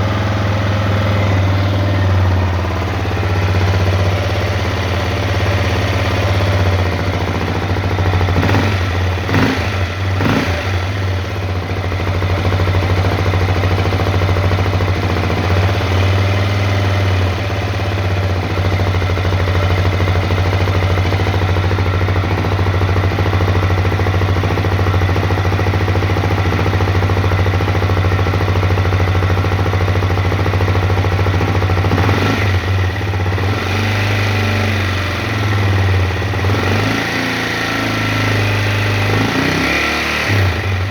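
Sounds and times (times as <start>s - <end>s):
motorcycle engine idling with knock: 0.0s - 37.3s.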